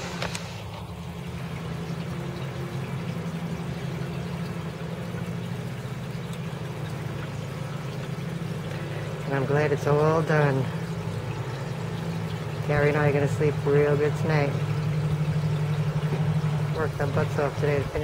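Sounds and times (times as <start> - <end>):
low motor drone: 0.0 - 18.0
water trickling and splashing: 0.0 - 18.0.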